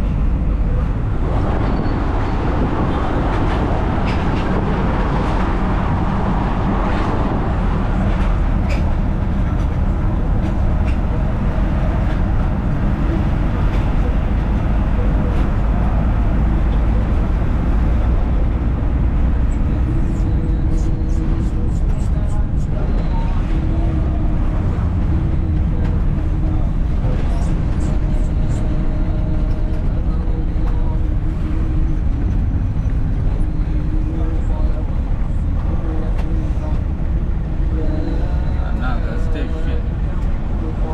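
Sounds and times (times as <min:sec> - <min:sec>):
vehicle rumble: 0:00.0 - 0:40.9.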